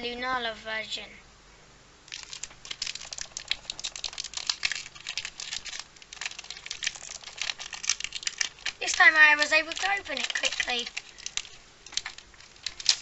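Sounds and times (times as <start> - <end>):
foil wrapper crinkling torn open: 2.1 - 13.0.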